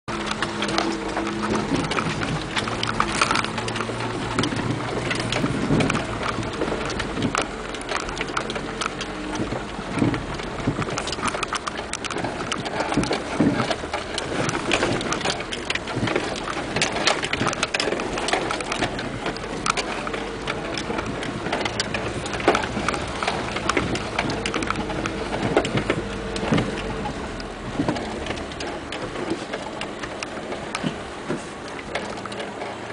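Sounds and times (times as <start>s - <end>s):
rain drop taps: 0.1s - 32.9s
steady rain falling: 0.1s - 32.9s.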